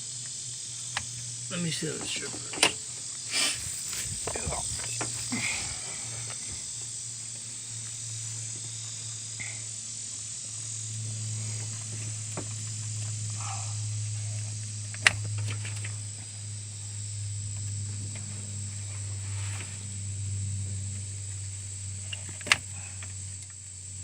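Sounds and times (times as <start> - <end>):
insects chirring: 0.0 - 24.0
low hum: 0.0 - 24.0.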